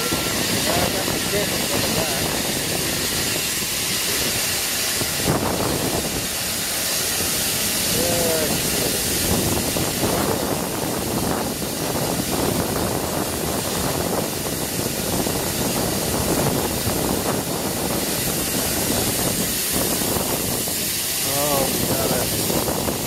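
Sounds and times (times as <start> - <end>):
steam locomotive hissing: 0.0 - 23.0
wind noise on microphone: 0.0 - 23.0.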